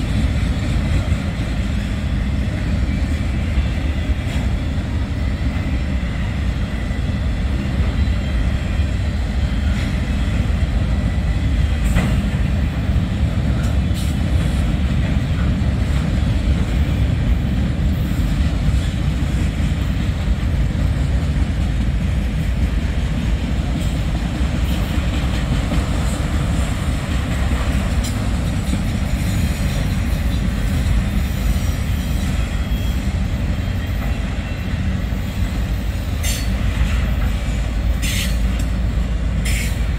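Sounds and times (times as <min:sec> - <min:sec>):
freight train rumbling on rails: 0:00.0 - 0:39.9.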